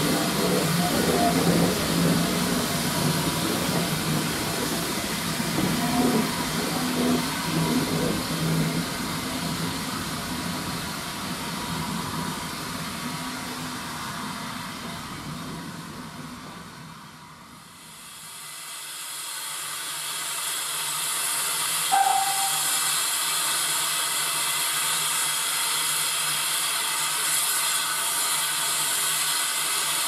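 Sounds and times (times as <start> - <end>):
steam train moving away: 0.0 - 30.0.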